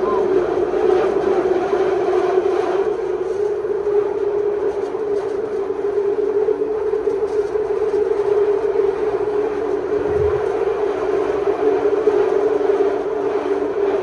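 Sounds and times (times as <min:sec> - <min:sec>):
train interior hum: 0:00.0 - 0:14.0
wheels rumbling on rails: 0:00.0 - 0:14.0.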